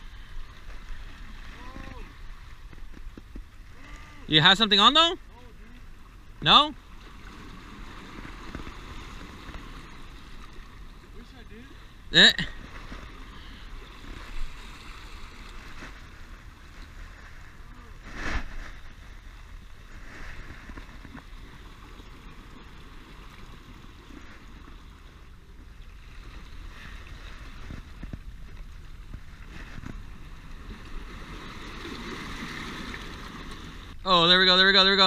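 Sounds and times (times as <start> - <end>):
ocean water washing: 0.0 - 35.0
wind: 0.0 - 35.0.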